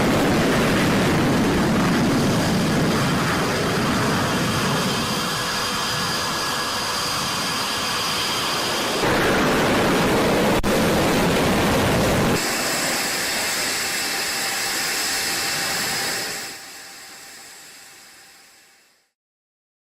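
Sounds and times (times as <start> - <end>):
jet engines roaring and whining: 0.0 - 19.0.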